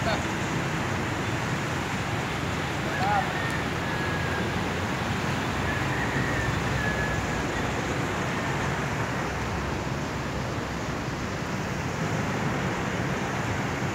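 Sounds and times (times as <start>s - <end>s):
river rushing: 0.0s - 13.9s.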